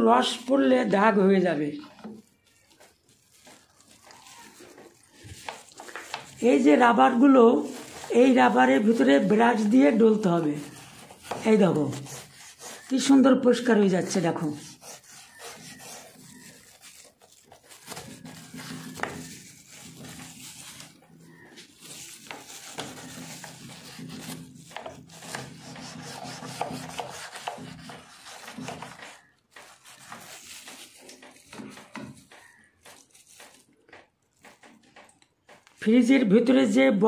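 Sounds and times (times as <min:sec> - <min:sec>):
plastic brush scrubbing rubber: 0:01.6 - 0:35.8.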